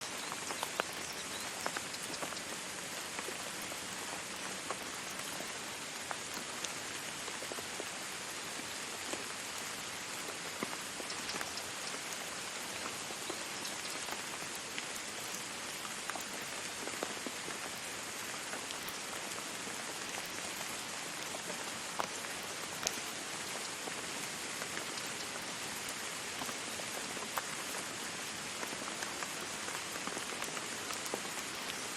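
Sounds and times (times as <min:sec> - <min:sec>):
oil sizzling and crackling: 0:00.1 - 0:31.9.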